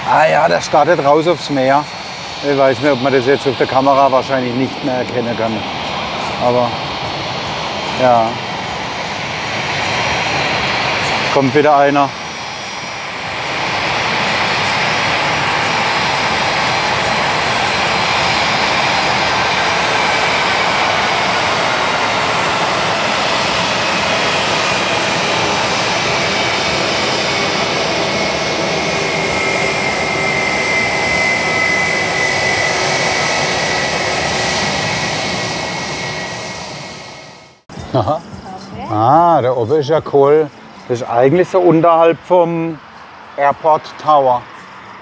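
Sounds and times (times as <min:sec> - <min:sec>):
high engine whine: 0:00.0 - 0:45.0
jet engines roaring: 0:00.0 - 0:45.0.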